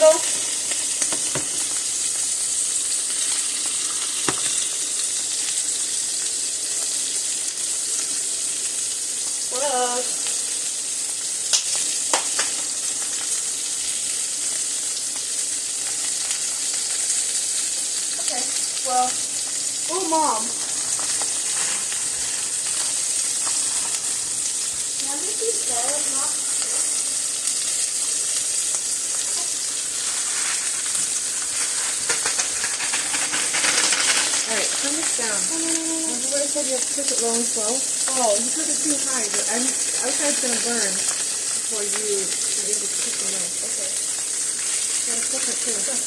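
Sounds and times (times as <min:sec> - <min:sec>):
steaks sizzling in a pan: 0:00.0 - 0:46.0.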